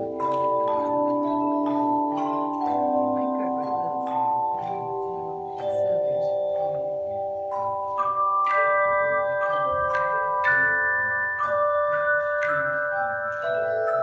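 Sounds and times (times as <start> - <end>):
handbell choir playing chords: 0.0 - 14.0.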